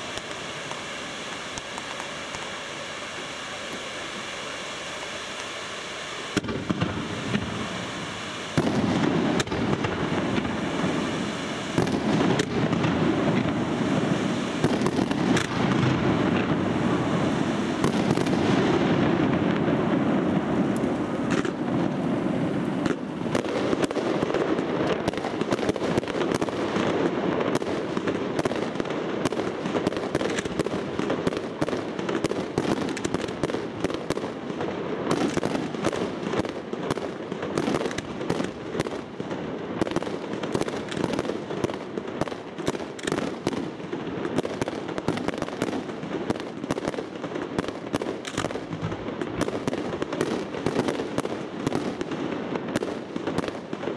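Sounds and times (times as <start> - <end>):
fireworks bangs and crackles: 0.0 - 53.9
fireworks rumble: 0.0 - 53.9.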